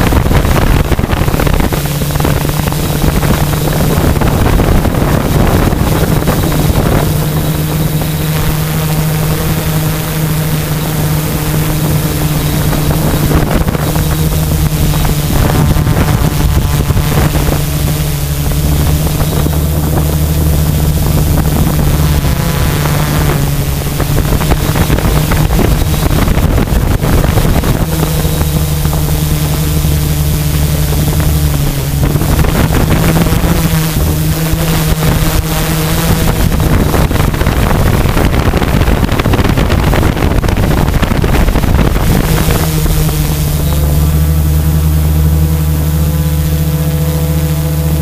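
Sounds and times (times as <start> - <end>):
drone motors humming: 0.0 - 48.0
wind rushing over microphone: 0.0 - 48.0.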